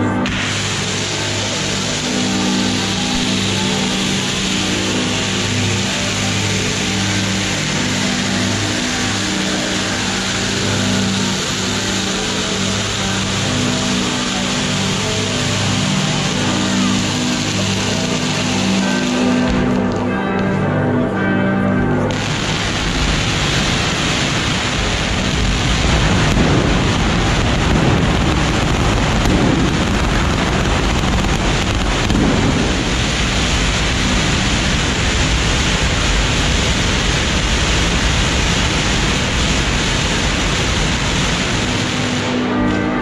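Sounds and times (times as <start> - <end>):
fireworks crackling bangs: 0.0 - 20.6, 22.0 - 43.0.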